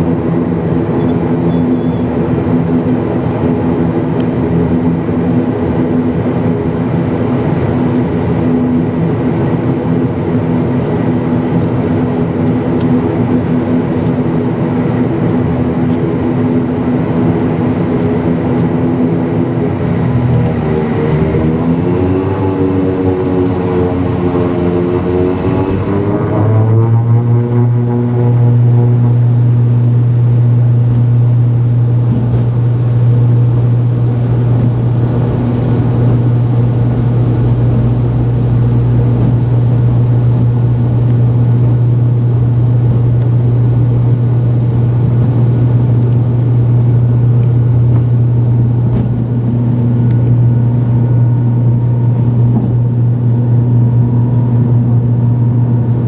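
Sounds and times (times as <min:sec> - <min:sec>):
propeller drone: 0:00.0 - 0:56.0.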